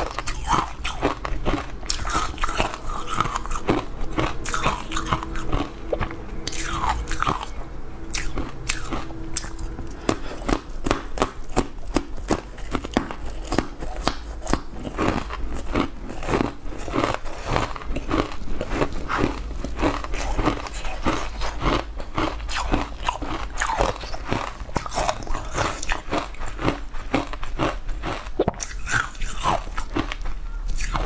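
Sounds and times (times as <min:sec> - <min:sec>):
crunchy bites and chewing: 0:00.0 - 0:31.0.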